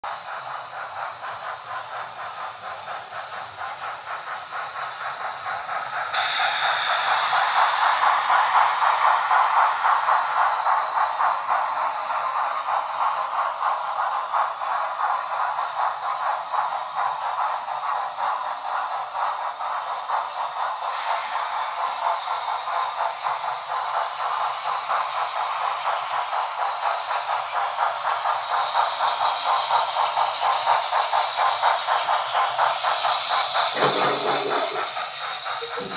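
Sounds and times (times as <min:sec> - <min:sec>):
model locomotive steam chuffing: 0:00.0 - 0:35.9
model trains clattering on track: 0:00.1 - 0:35.9.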